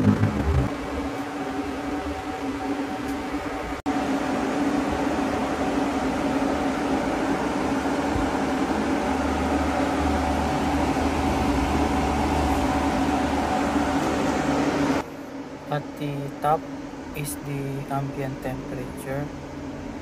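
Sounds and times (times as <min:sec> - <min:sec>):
cooling fan and water pump whirring: 0:00.0 - 0:20.0.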